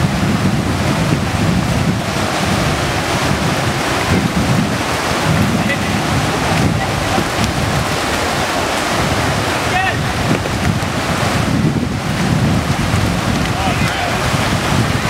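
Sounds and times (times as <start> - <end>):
whitewater rapids rushing: 0.0 - 15.0
wind buffeting microphone: 0.0 - 15.0.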